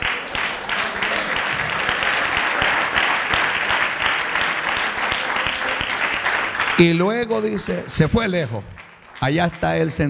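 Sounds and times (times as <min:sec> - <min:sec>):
congregation applauding: 0:00.0 - 0:10.0.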